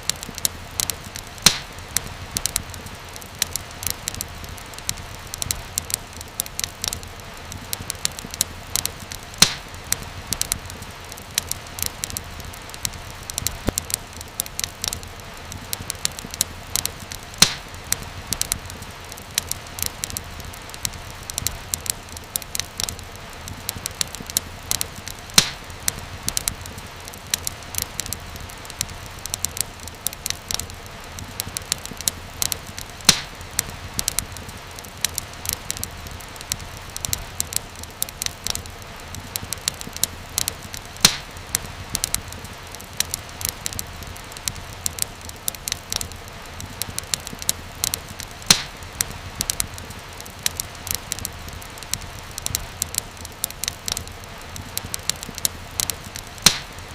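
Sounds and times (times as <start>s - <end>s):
soft hiss: 0.0s - 56.9s
wood fire crackling: 0.0s - 56.9s.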